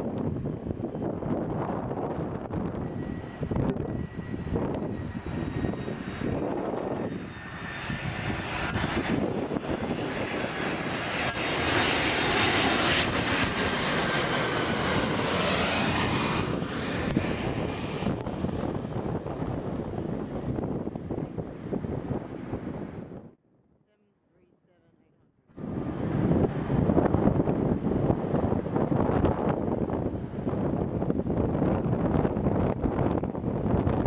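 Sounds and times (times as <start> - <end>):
jet engine whine: 0.0 - 24.5, 25.5 - 34.0
airliner passing overhead: 0.0 - 25.0, 25.6 - 34.0.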